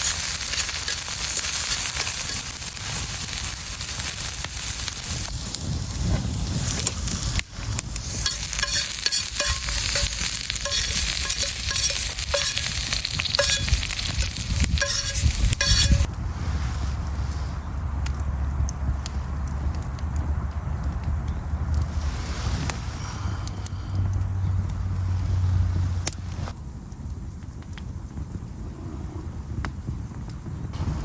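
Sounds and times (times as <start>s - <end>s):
sizzling and crackling campfire cooking: 0.0s - 31.0s.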